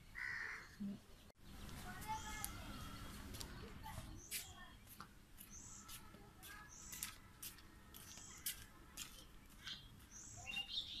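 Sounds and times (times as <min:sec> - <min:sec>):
bird chirping: 0:00.0 - 0:03.4, 0:04.0 - 0:11.0.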